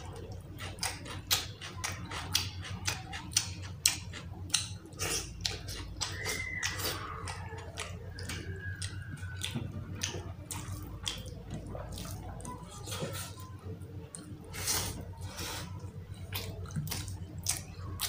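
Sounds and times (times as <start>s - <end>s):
mouth smacks while chewing: 0.0s - 18.0s.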